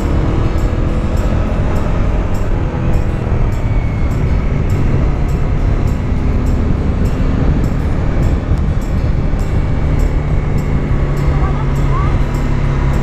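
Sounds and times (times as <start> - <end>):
motorcycle engine cruising: 0.0 - 13.0
wind noise on microphone: 0.0 - 13.0.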